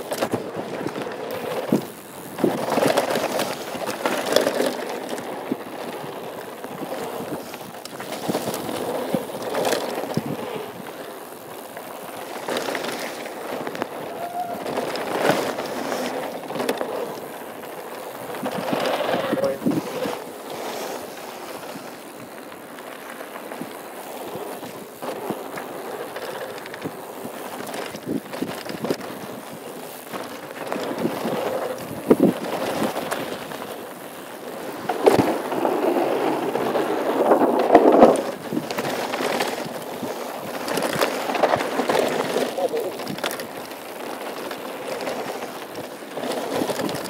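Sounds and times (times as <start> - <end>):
bike knocking and rattling: 0.0 - 47.0
bike tyres rolling over dirt: 0.0 - 47.0.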